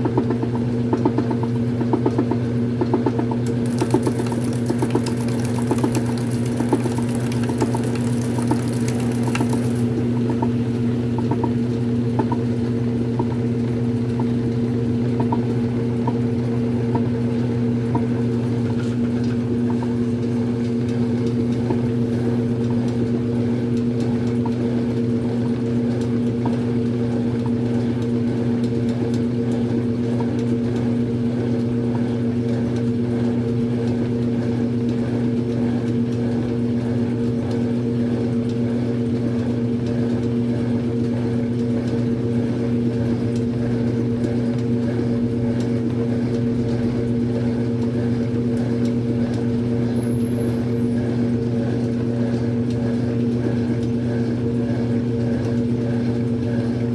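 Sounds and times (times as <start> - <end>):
washing machine motor hum: 0.0 - 56.9.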